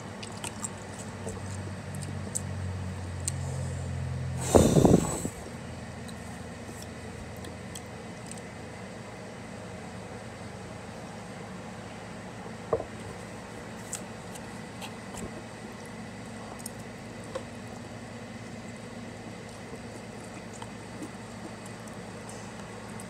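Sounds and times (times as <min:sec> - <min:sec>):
quiet eating sounds: 0:00.0 - 0:09.2, 0:12.4 - 0:23.0
steady background hum: 0:00.0 - 0:23.0.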